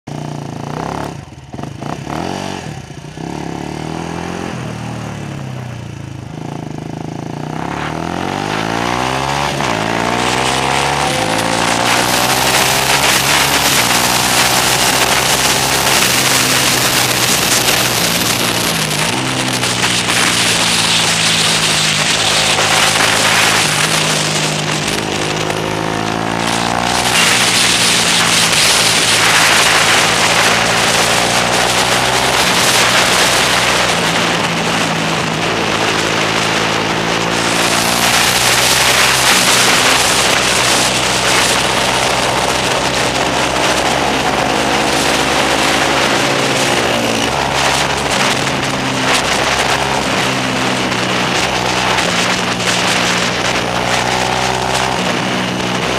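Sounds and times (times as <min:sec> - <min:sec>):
motorcycle engine revving: 0:00.0 - 0:55.9
wind rush on microphone: 0:07.2 - 0:55.9.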